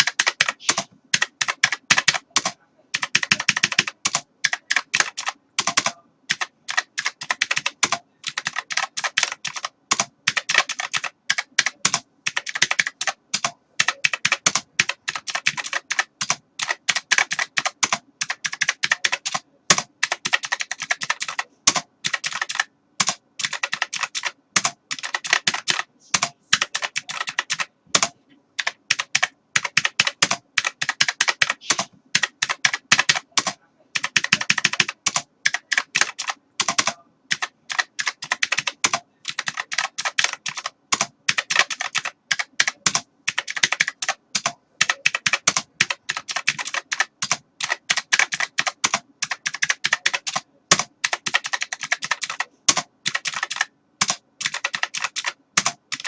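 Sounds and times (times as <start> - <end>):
keyboard typing: 0.0 - 56.0.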